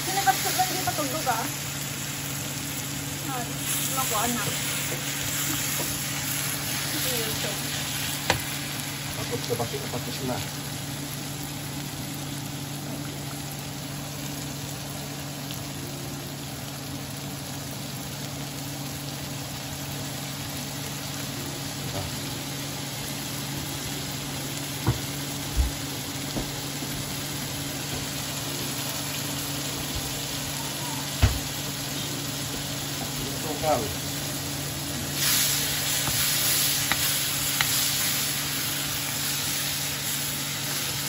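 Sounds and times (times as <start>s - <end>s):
onions sizzling in oil: 0.0s - 41.0s.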